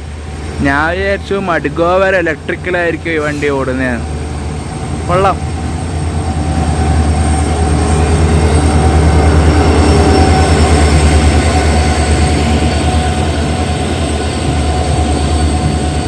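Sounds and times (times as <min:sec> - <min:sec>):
diesel locomotive engine throbbing: 0:00.0 - 0:16.0.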